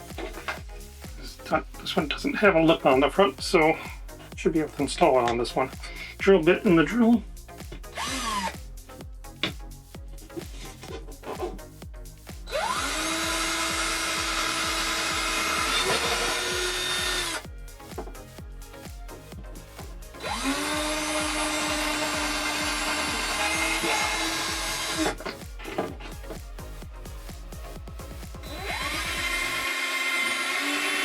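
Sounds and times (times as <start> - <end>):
power drill whining: 0.0 - 7.0, 7.7 - 8.7, 12.4 - 26.6, 28.0 - 31.0.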